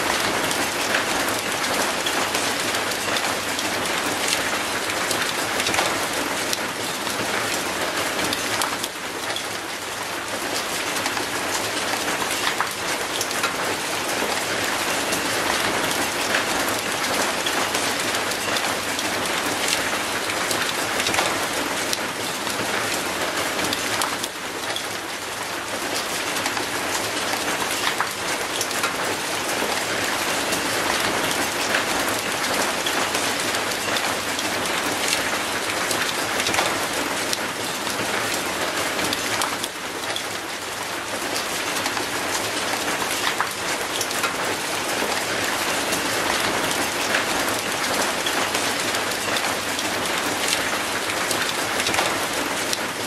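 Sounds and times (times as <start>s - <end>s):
rain on concrete and metal gate: 0.0s - 53.0s.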